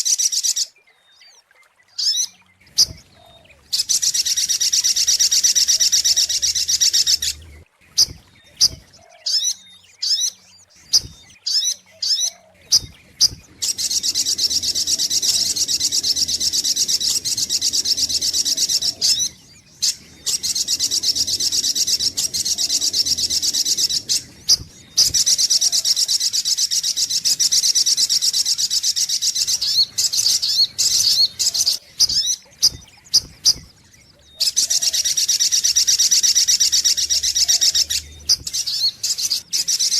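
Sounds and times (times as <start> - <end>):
bird high chirps: 2.0 - 39.9.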